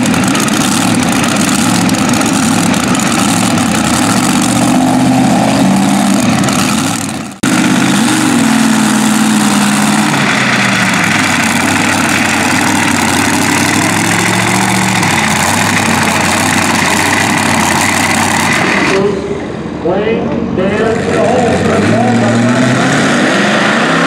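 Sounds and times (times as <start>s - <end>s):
engine revving: 0.0s - 19.6s, 20.6s - 24.0s
tractor engines idling: 0.0s - 22.7s.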